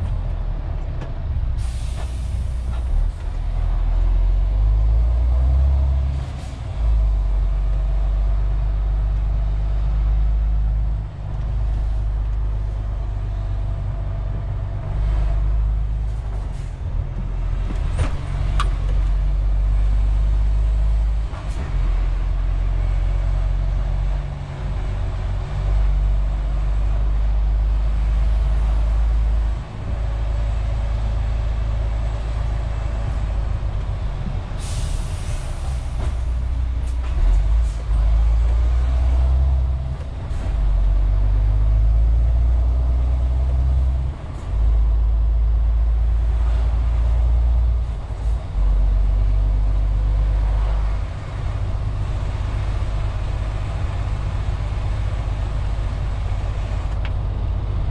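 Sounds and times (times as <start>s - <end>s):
diesel truck engine droning: 0.0s - 57.9s.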